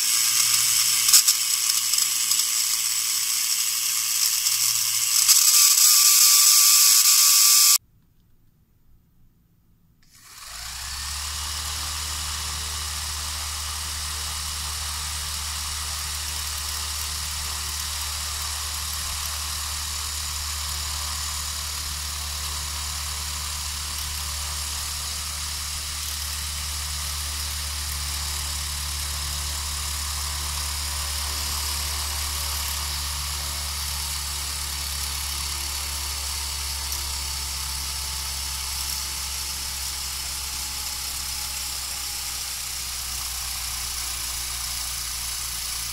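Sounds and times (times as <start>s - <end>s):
small motors whirring: 0.0s - 7.8s, 10.0s - 45.9s.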